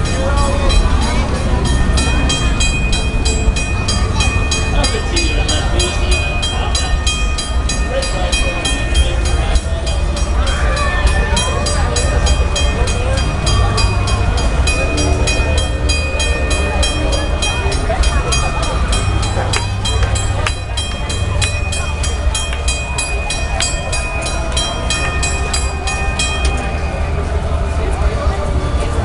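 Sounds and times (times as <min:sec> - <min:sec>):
railroad crossing bell ringing: 0:00.0 - 0:29.0
train rumbling: 0:00.0 - 0:29.0.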